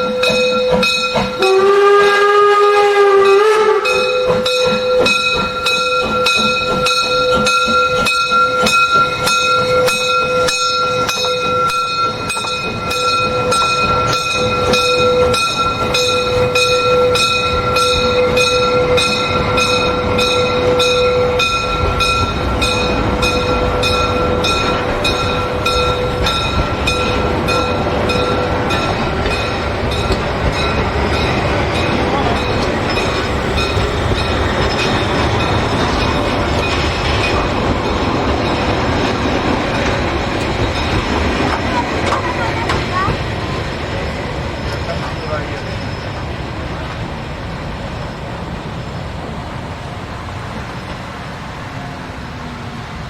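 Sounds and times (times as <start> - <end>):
train running with repeating beat: 0.0 - 53.0.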